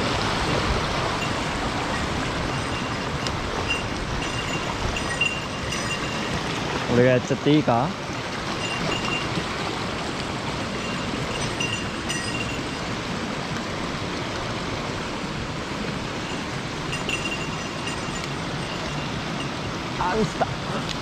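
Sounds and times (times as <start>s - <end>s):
stream flowing: 0.0s - 21.0s.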